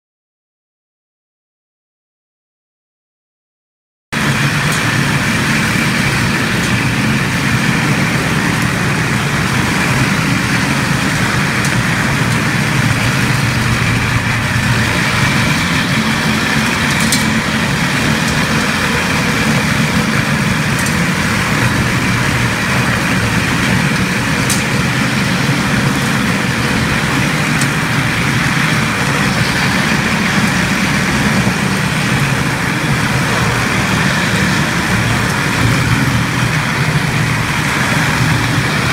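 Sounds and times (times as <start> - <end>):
floor grinder running: 4.2 - 38.9.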